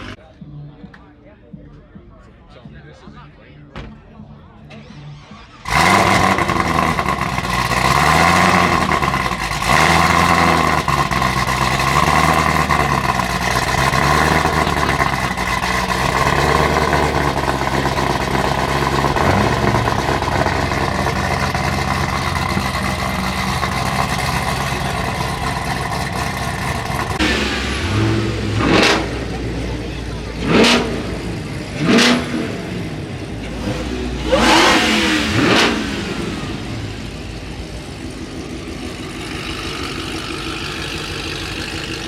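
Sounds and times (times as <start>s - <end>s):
car engine starting and revving: 0.0s - 0.2s, 4.7s - 42.0s.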